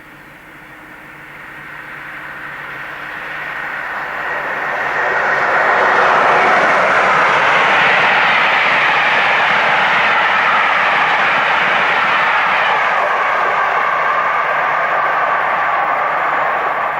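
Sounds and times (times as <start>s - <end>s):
electric train rushing past: 0.0s - 16.9s.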